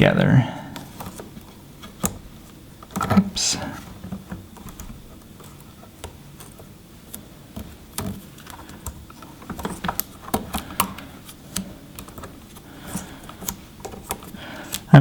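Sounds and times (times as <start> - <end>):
electrical tape crackling: 0.8 - 15.0.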